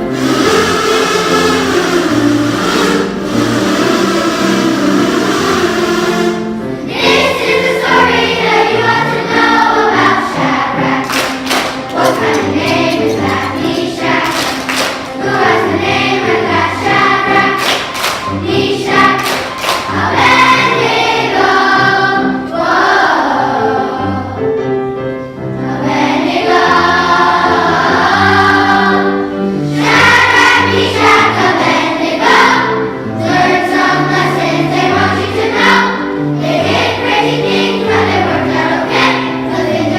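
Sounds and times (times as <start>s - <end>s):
instrumental accompaniment with bass: 0.0s - 22.2s, 29.7s - 39.9s
children's choir singing: 0.0s - 39.9s.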